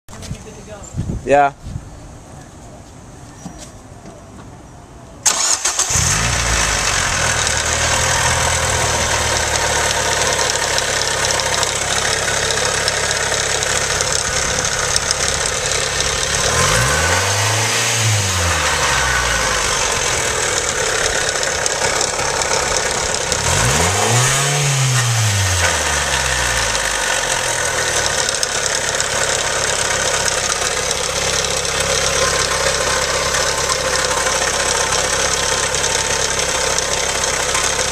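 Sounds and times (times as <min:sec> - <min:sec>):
car engine starting and revving: 0:05.2 - 0:37.9
engine ticking: 0:05.3 - 0:37.9.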